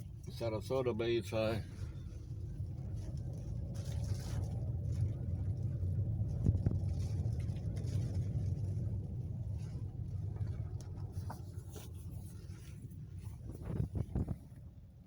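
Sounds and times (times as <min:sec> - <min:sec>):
strong wind around a car: 0:00.0 - 0:15.0.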